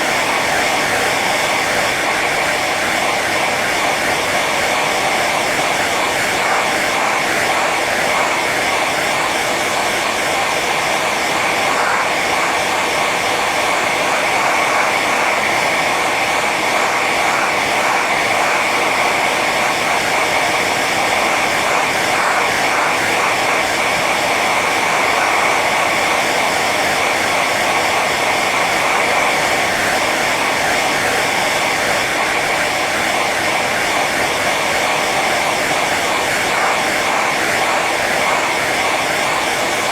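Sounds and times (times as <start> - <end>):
hair dryer blowing air: 0.0 - 39.9.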